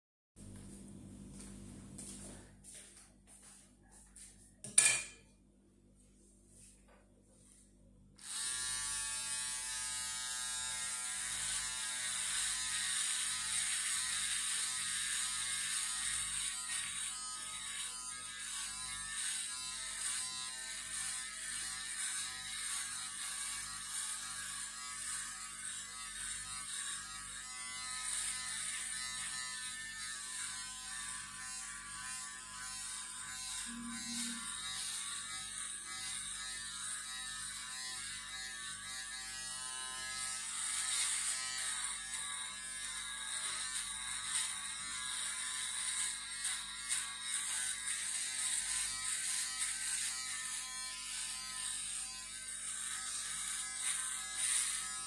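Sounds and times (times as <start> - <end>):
electric shaver buzzing: 8.2 - 55.0.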